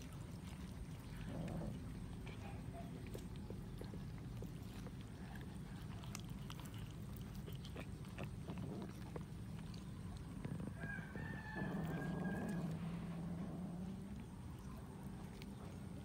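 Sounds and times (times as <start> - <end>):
cats chewing and crunching: 0.0 - 16.0
low background hum: 0.0 - 16.0.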